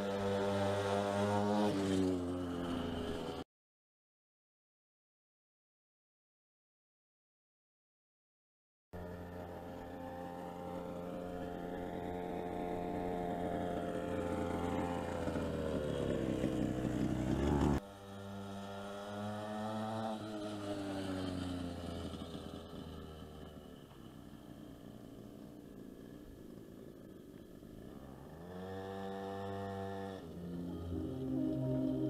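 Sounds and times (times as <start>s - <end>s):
two-stroke minibike engine: 0.0s - 3.4s, 9.0s - 32.0s.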